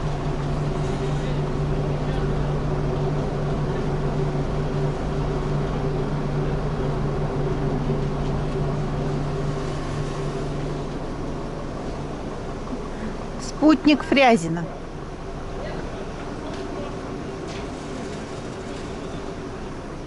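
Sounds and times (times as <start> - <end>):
low hum from train drive: 0.0 - 20.0
train carriage rumble: 0.0 - 20.0.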